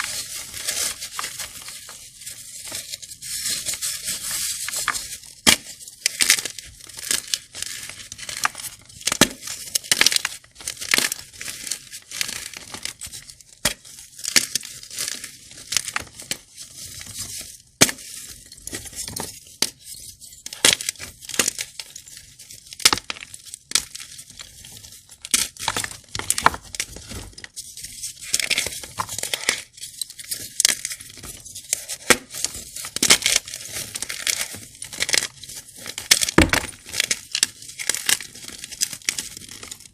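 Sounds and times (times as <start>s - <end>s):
crunchy blocks crushed and crackling: 0.0s - 39.9s.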